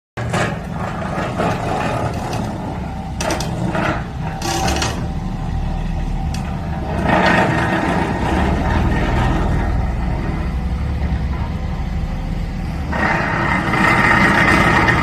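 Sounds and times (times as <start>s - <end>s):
excavator engine rumble: 0.2s - 15.0s.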